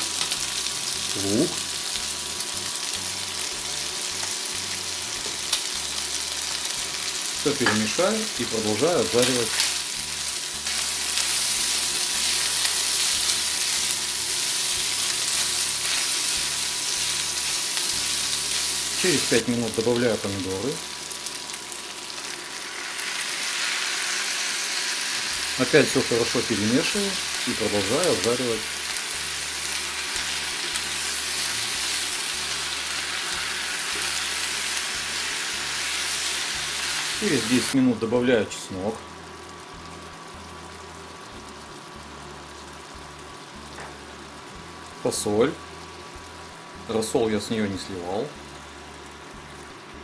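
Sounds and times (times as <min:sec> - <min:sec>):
chicken and onion sizzling in oil: 0:00.0 - 0:50.0.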